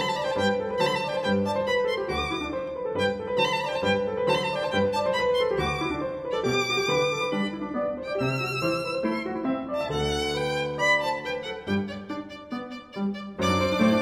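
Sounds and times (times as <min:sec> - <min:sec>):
violin melody: 0:00.0 - 0:14.0.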